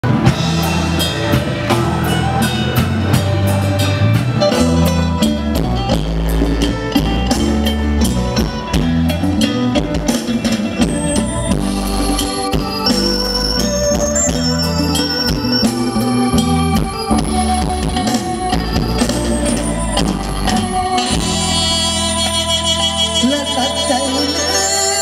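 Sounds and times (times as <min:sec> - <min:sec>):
drum kit beat: 0:00.0 - 0:24.0
band music through loudspeakers: 0:00.0 - 0:25.0
bass line: 0:00.0 - 0:25.0.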